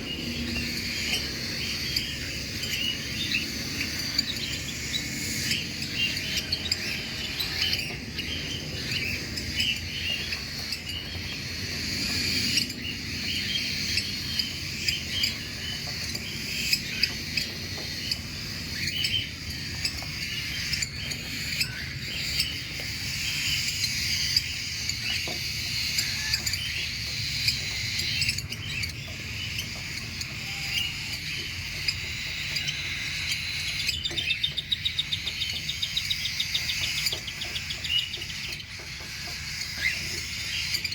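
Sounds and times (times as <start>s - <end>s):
cockatiels chirping and calling: 0.0s - 40.9s.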